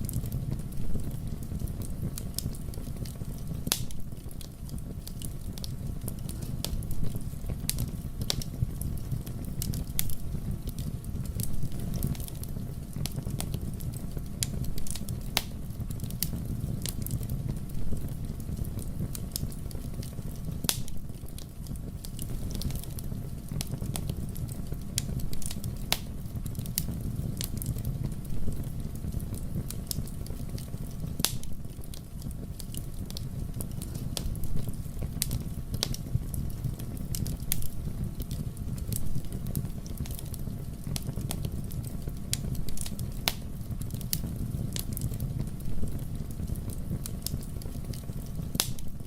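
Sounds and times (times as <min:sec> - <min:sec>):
fire crackling and popping: 0:00.0 - 0:49.0
fire low rumble: 0:00.0 - 0:49.0.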